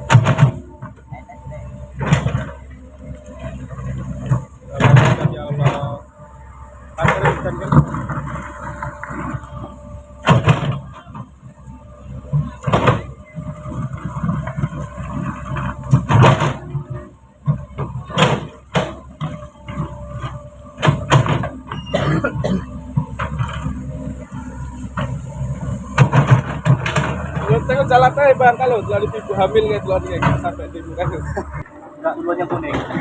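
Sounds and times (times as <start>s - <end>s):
truck body clunking and rattling: 0.0s - 33.0s
truck engine rumble: 0.0s - 33.0s.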